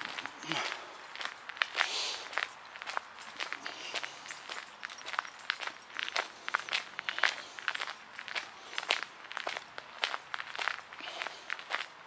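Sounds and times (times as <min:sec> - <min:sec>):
footsteps crunching: 0:00.0 - 0:12.0.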